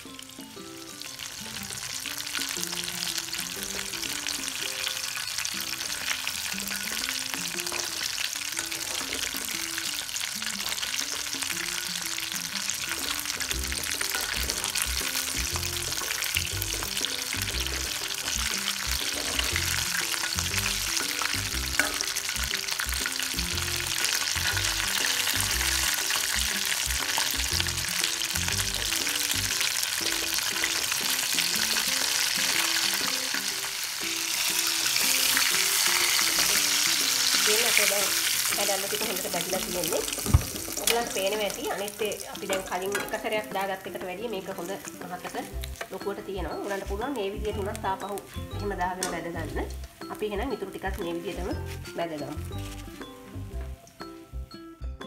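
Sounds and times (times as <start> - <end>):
fish deep-frying in oil: 0.0 - 54.2.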